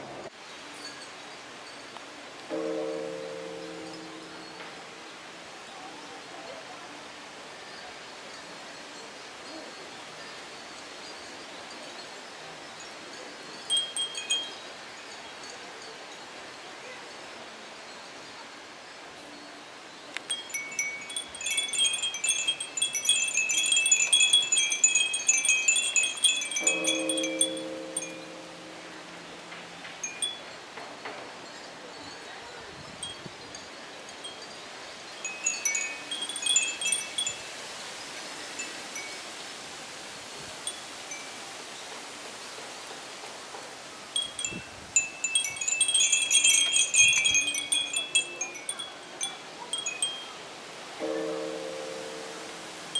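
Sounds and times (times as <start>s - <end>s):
faint outdoor hiss: 0.0s - 52.9s
wind bells tinkling: 0.0s - 52.9s.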